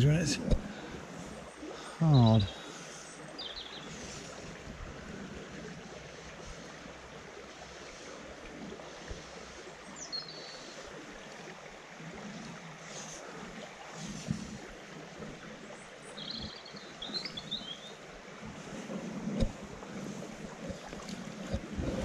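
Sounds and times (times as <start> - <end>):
river water running over stones: 0.0 - 22.0.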